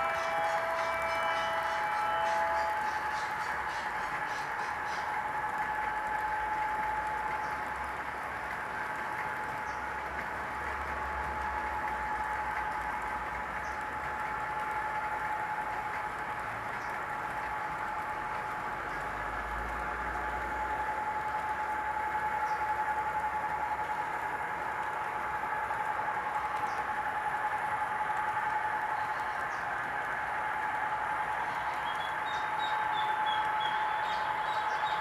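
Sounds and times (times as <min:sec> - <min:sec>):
locomotive engine whine: 0:00.0 - 0:35.0.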